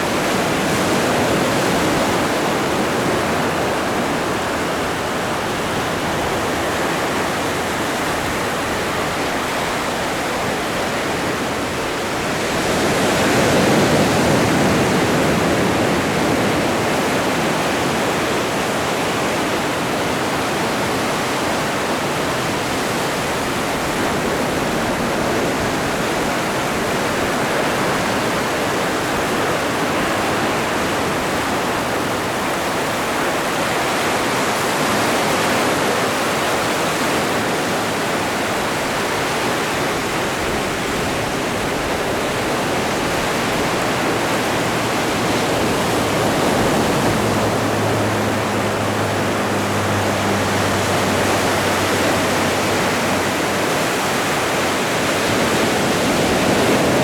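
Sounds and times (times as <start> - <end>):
breaking waves rushing: 0.0 - 57.0.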